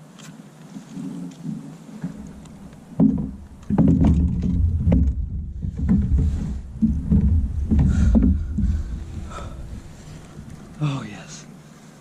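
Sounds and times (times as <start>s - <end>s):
knocks and thumps on a kayak: 1.0s - 10.9s
low microphone rumble: 2.0s - 11.7s.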